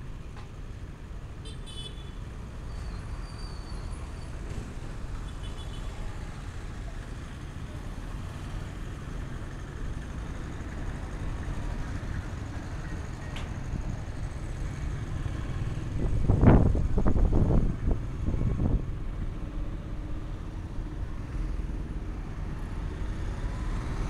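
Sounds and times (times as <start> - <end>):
road vehicles rumbling past: 0.0 - 24.0.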